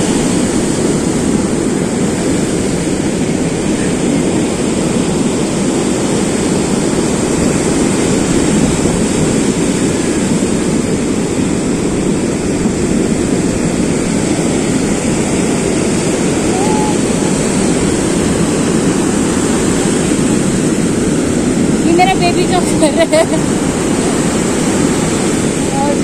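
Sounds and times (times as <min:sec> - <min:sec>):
sea surf rushing: 0:00.0 - 0:26.0
wind on microphone: 0:00.0 - 0:26.0.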